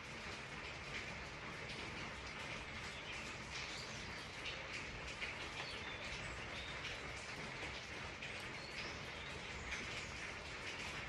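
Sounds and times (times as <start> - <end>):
raindrops ticking: 0.0 - 11.0
steady rain: 0.0 - 11.0.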